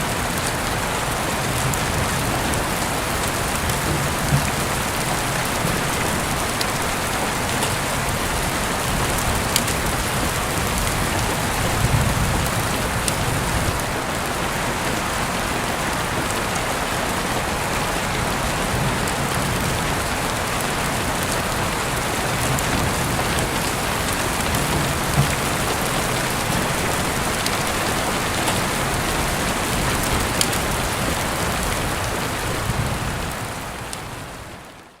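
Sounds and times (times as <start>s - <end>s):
heavy rain through window: 0.0s - 35.0s.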